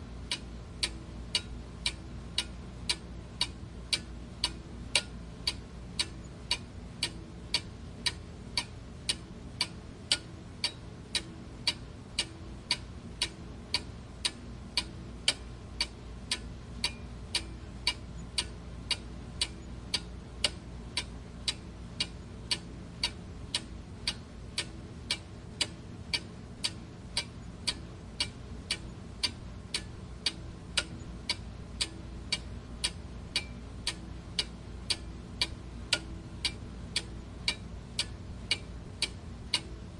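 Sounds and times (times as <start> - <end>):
low steady hum: 0.0 - 39.9
clock ticking: 0.3 - 39.7.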